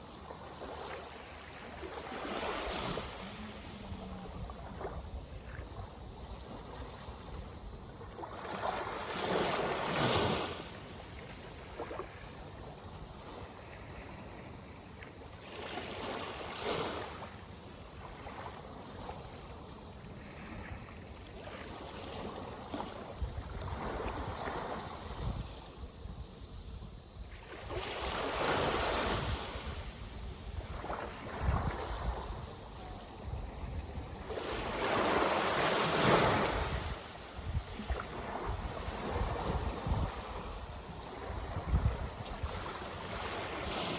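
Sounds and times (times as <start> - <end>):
small waves washing ashore: 0.0 - 43.9.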